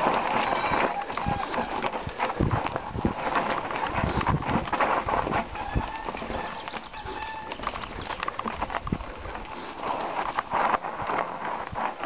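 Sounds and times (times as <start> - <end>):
mountain bike clattering: 0.0 - 12.0.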